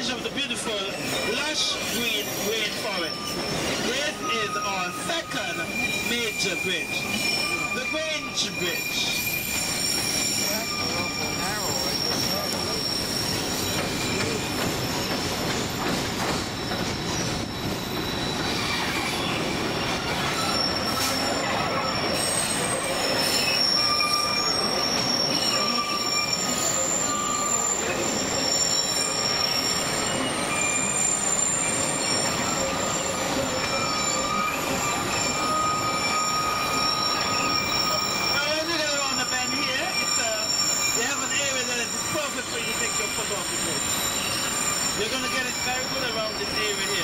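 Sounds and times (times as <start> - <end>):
train cars rumbling on track: 0.0 - 47.0
train wheels squealing on rails: 0.0 - 47.0.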